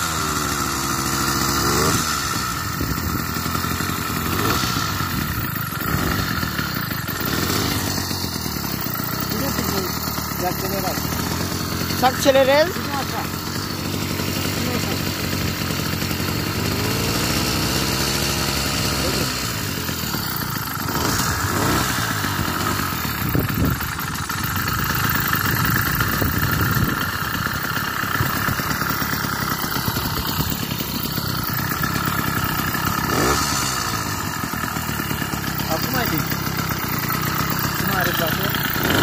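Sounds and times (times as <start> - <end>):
two-stroke engine revving: 0.0 - 39.0.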